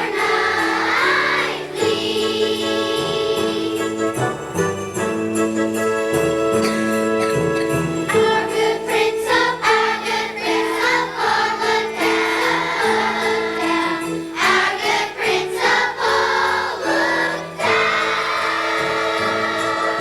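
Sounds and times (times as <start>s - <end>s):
christmas music: 0.0s - 20.0s.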